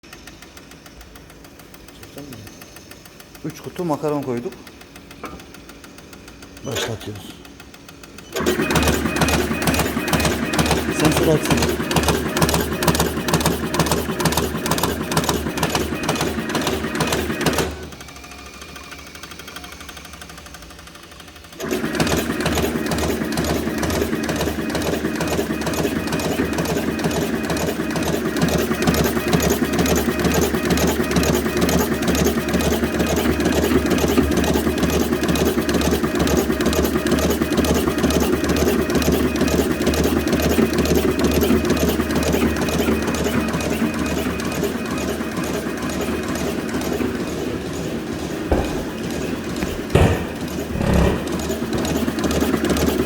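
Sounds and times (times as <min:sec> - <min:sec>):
machine running with mechanical clatter: 0:00.0 - 0:53.0.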